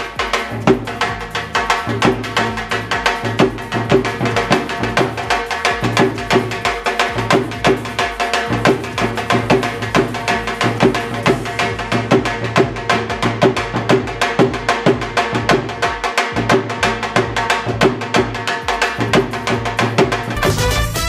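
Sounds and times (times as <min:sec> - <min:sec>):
bhangra music with dhol drum: 0:00.0 - 0:21.0.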